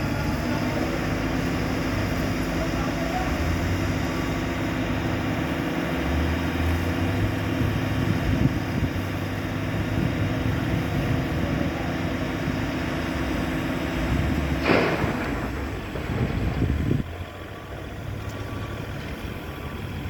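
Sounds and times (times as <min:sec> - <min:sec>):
crane engine humming: 0:00.0 - 0:20.0.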